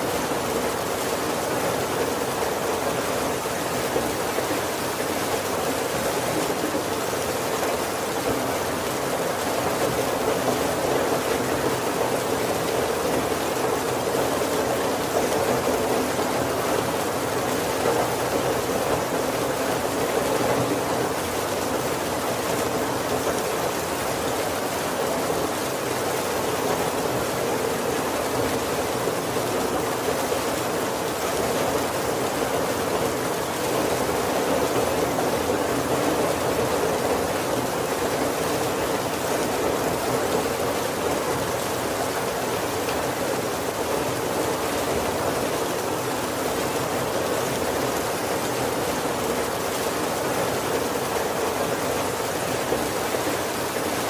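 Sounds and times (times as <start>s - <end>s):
heavy rain on a wooden roof: 0.0s - 54.0s.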